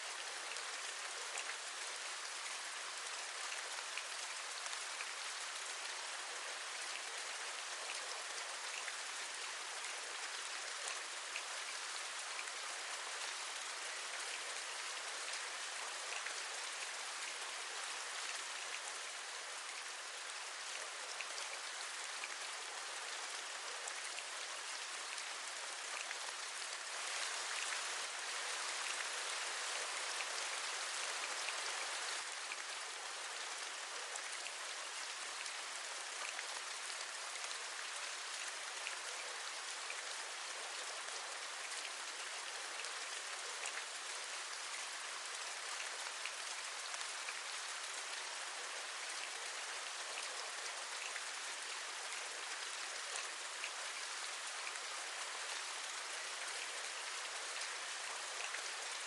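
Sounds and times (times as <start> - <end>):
patter of raindrops: 0.0 - 59.0
steady rain: 0.0 - 59.0.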